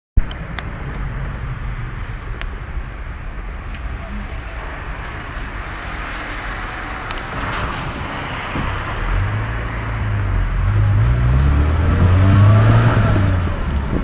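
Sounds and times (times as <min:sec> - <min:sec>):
street noise rumble and hiss: 0:00.2 - 0:14.0.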